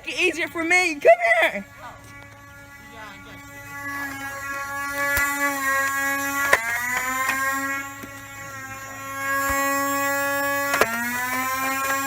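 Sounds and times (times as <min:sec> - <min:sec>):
flywheel motors whining: 0:00.0 - 0:12.0.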